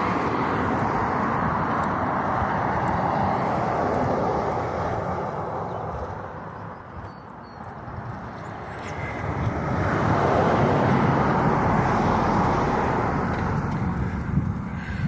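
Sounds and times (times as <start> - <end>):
vehicle passing: 0.0 - 15.0.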